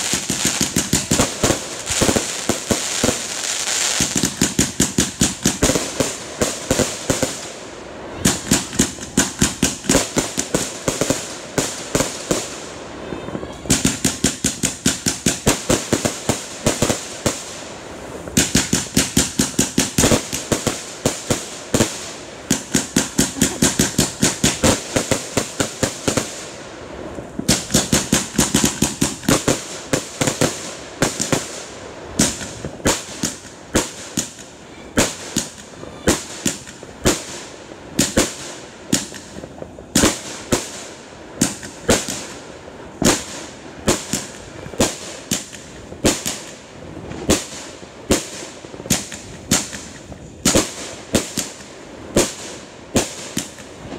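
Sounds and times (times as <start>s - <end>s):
fireworks launching and bursting: 0.0s - 53.9s.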